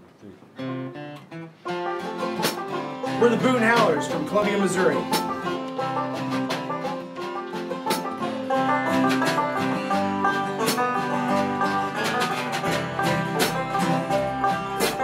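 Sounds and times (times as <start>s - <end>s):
acoustic guitar strumming: 0.6s - 15.0s
upright bass line: 2.6s - 15.0s.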